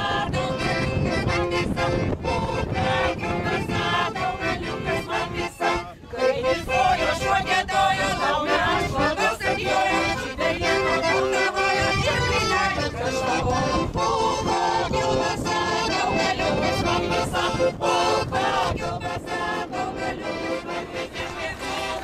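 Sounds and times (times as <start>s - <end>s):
accordion: 0.0s - 22.0s
group singing: 0.0s - 22.0s.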